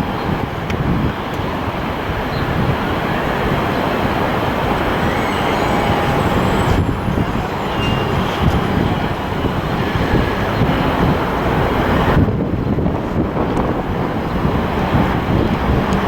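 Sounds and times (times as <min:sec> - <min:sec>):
jet engines rumbling at takeoff: 0:00.0 - 0:16.0.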